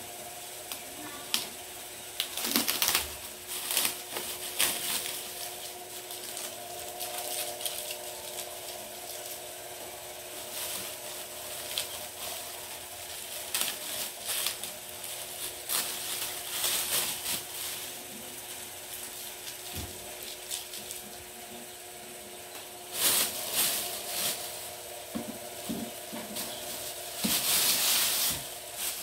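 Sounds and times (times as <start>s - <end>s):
faint hum: 0.0s - 29.0s
plastic bag crinkling: 2.1s - 21.4s, 22.5s - 29.0s.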